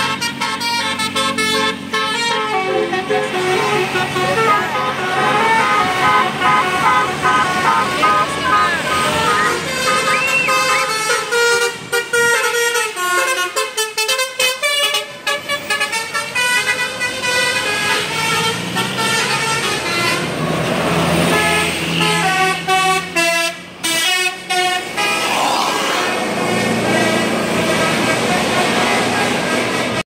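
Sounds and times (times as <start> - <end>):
musical bus horn melody: 0.0 - 25.4, 26.9 - 29.4
bus engine running: 0.0 - 30.0.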